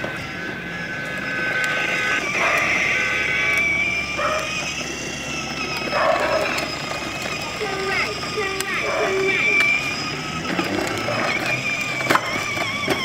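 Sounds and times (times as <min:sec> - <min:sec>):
toy scooter electric motor whine: 0:00.0 - 0:13.0.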